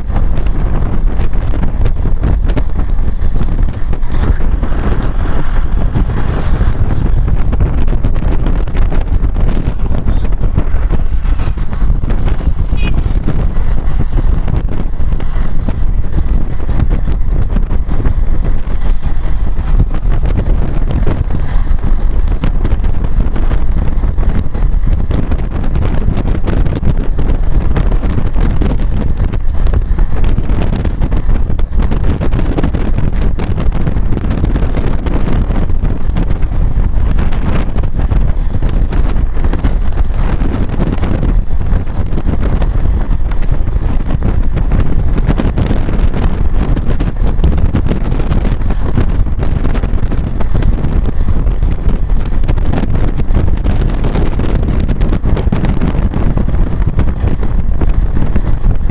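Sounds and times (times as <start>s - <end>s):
motorbike running: 0.0s - 58.9s
road noise: 0.0s - 58.9s
wind buffeting microphone: 0.0s - 58.9s.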